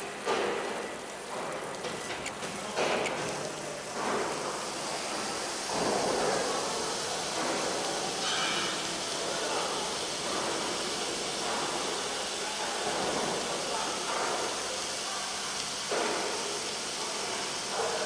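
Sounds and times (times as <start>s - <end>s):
water spraying hiss: 0.0s - 18.0s.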